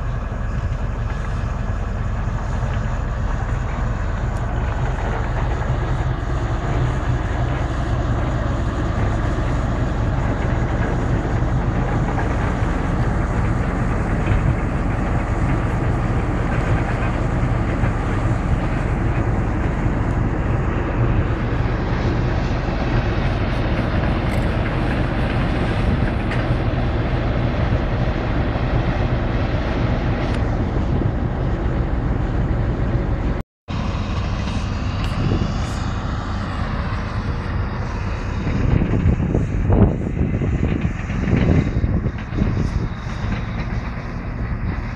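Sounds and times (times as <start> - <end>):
excavator diesel engine droning: 0.0 - 44.9.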